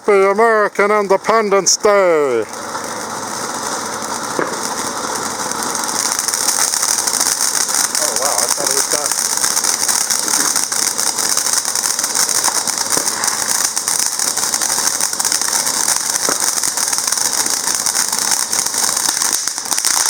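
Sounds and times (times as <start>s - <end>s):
firework crackling hiss: 0.0s - 20.0s.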